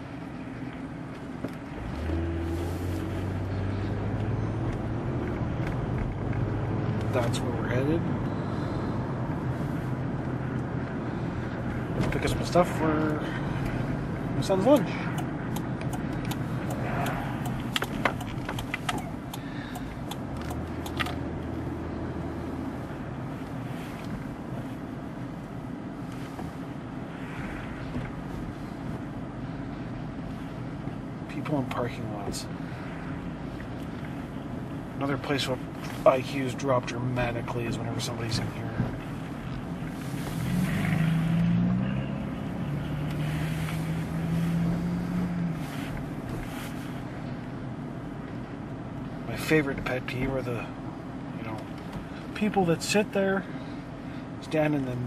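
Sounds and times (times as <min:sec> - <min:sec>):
engine and road rumble: 0:00.0 - 0:55.0.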